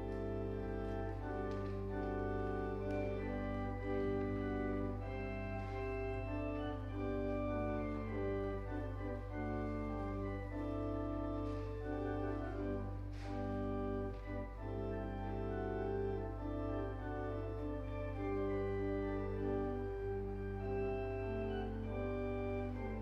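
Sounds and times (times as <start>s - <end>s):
solemn instrumental music: 0.0s - 23.0s.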